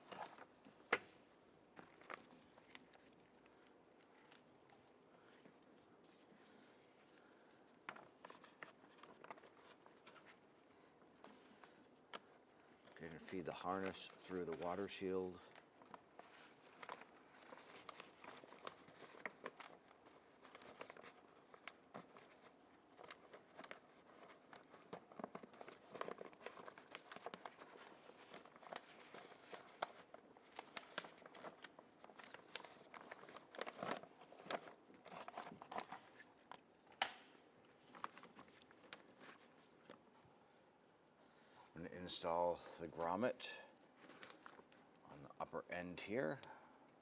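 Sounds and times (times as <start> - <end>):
plastic sheet crinkling: 1.8 - 40.2.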